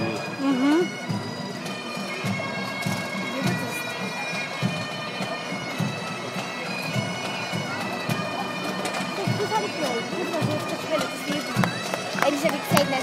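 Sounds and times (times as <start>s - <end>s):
bagpipes playing: 0.0s - 13.0s.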